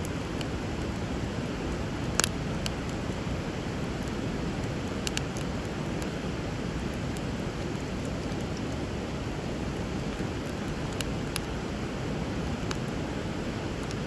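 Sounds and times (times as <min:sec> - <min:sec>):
bonfire crackling and popping: 0:00.0 - 0:14.0
river water flowing: 0:00.0 - 0:14.0.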